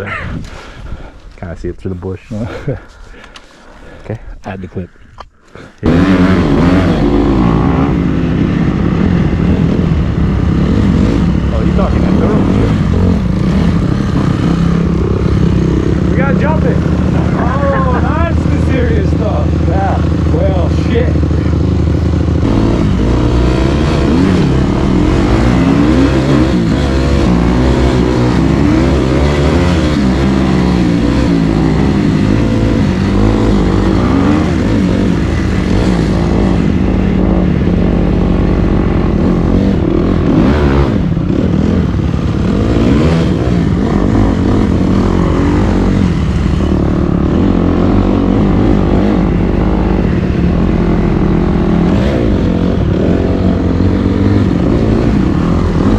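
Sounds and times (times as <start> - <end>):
dirt bike engine revving: 5.8 - 55.9.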